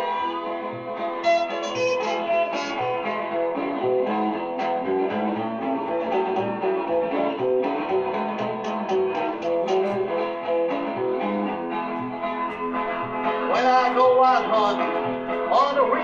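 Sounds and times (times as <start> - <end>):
guitar picking single notes: 0.0 - 16.0.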